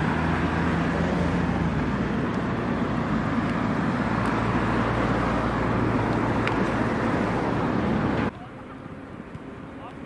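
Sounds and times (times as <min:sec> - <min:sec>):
outdoor background noise: 0:00.0 - 0:10.0.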